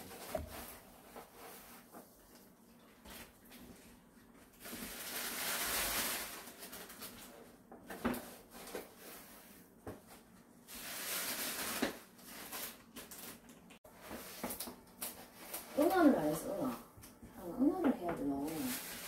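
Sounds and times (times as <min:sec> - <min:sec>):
scraping and rustling of litter: 0:00.0 - 0:16.8, 0:18.0 - 0:19.0.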